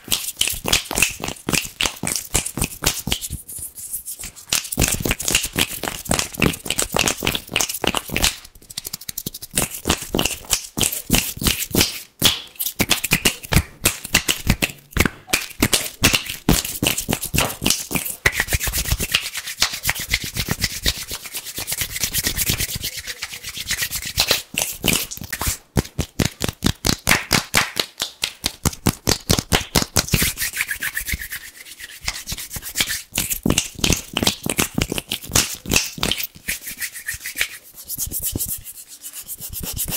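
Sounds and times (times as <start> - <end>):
hands rubbing together: 0.1 - 28.8, 29.5 - 39.9.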